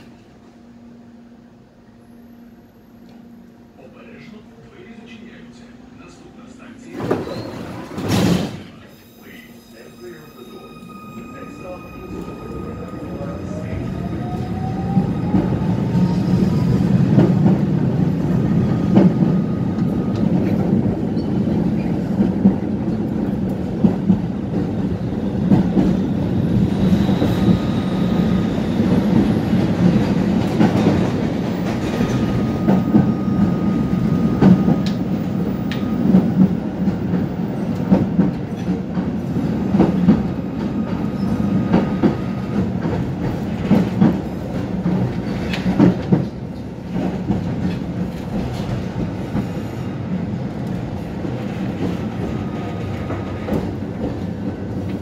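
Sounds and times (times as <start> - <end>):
tram wheels rumbling on rail: 2.9 - 55.0.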